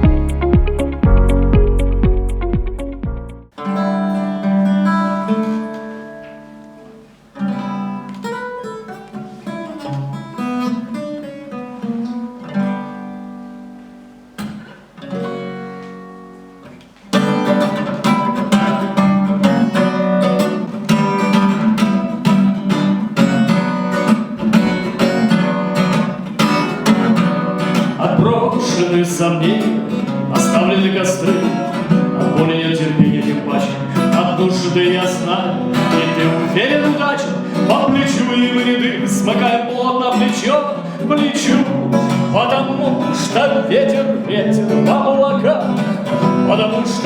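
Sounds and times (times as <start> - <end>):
acoustic guitar playing: 0.0 - 47.0.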